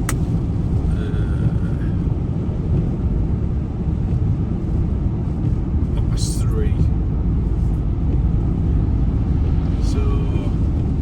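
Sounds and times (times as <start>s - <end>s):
vehicle engine and tyre noise: 0.0s - 11.0s.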